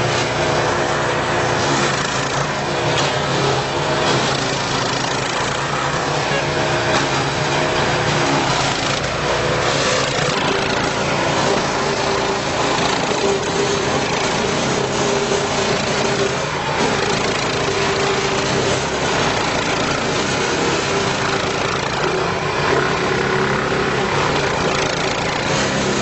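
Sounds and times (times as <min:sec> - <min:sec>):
wood chipper engine running: 0:00.0 - 0:26.0.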